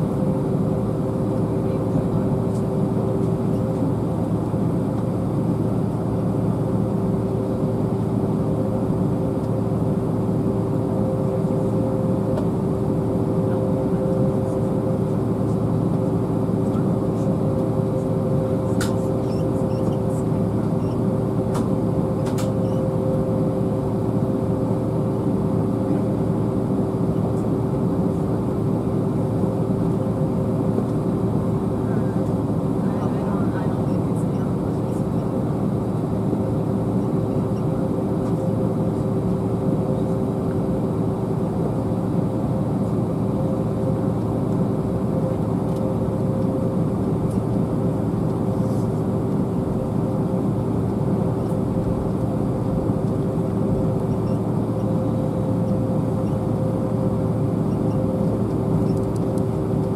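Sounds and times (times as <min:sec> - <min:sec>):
airliner cabin rumble: 0:00.0 - 0:59.9
jet engine humming tones: 0:00.0 - 0:59.9.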